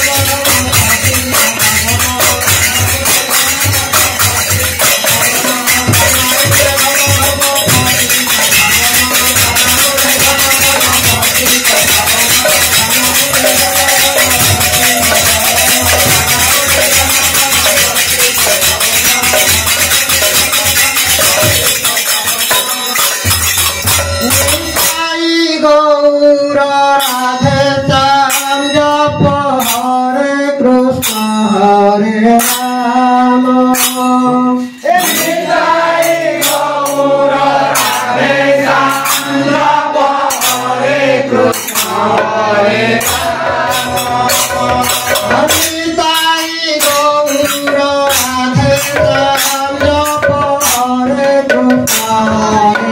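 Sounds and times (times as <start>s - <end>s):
barrel drum playing: 0.0s - 25.6s, 26.7s - 30.0s, 32.3s - 52.9s
jingling percussion: 0.0s - 52.9s
person singing through microphone: 0.0s - 52.9s.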